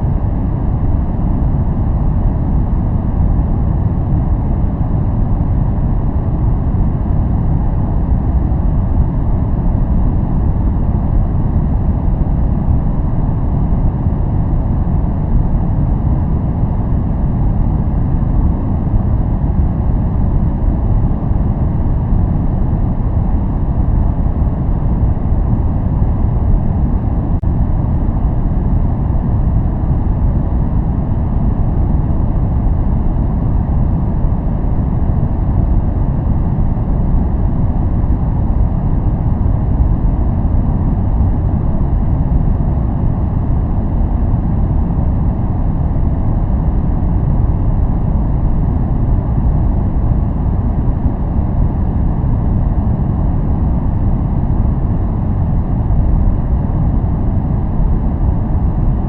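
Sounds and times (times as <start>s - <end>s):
deep rumbling noise: 0.0s - 59.0s.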